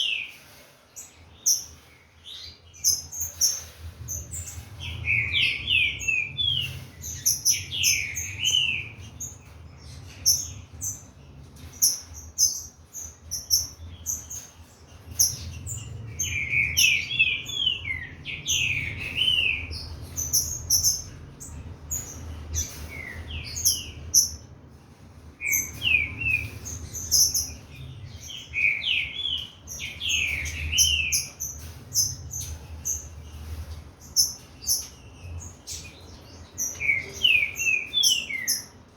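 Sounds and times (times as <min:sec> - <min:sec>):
bird whistling song: 0:01.4 - 0:11.1, 0:11.7 - 0:14.5, 0:15.1 - 0:24.5, 0:25.4 - 0:33.1, 0:34.1 - 0:38.8.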